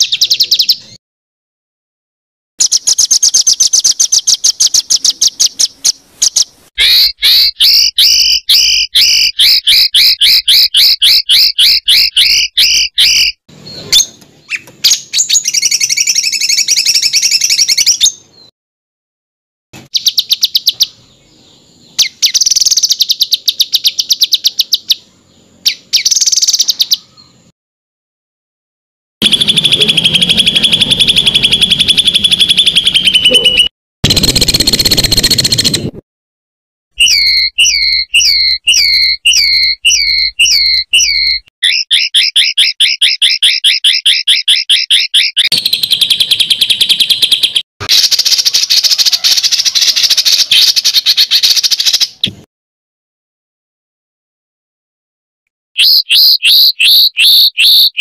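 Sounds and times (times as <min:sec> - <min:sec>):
songbird whistled notes: 0:02.6 - 0:18.5, 0:19.8 - 0:27.5, 0:29.2 - 0:35.9, 0:37.0 - 0:52.3, 0:55.8 - 0:58.0.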